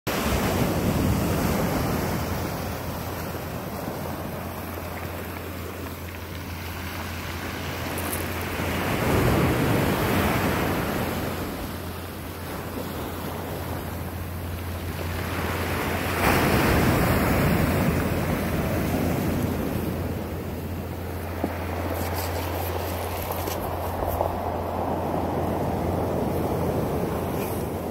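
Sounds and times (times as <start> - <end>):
surf breaking on pebble beach: 0.1 - 27.9.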